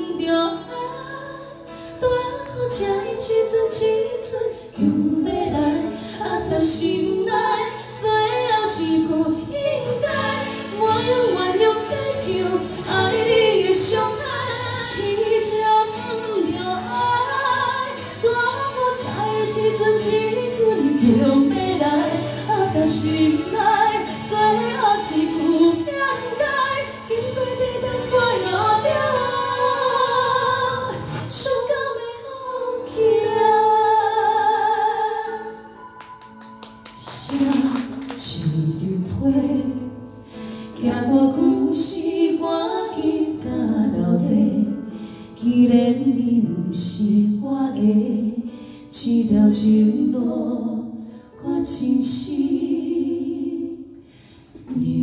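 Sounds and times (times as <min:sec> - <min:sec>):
women singing pop ballad duet: 0:00.0 - 0:36.0, 0:37.0 - 0:54.0, 0:54.6 - 0:55.0
musical accompaniment: 0:00.0 - 0:55.0.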